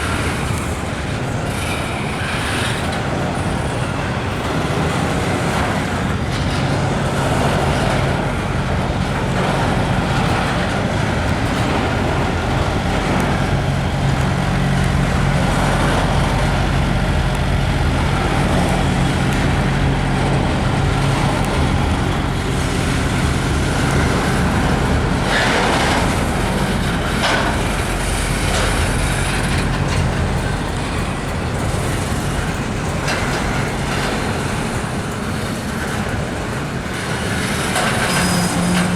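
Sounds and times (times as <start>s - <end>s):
low engine hum: 0.0s - 38.9s
train wheels rumbling on rails: 0.0s - 38.9s.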